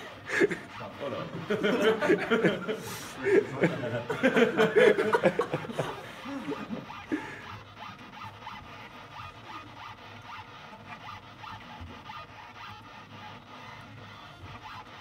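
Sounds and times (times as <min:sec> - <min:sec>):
robot pen rasping strokes: 0:00.0 - 0:15.0.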